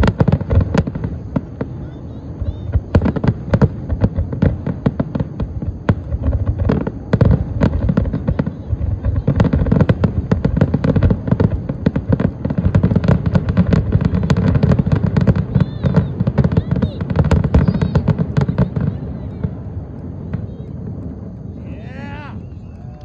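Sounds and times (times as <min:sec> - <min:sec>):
fireworks booming and crackling: 0:00.0 - 0:23.0.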